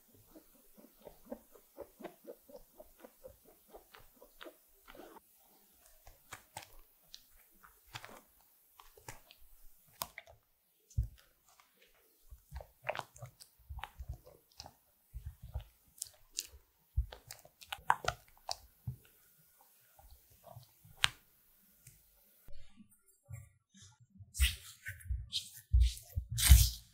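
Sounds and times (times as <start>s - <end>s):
spatula stirring thick curd: 0.0s - 22.5s.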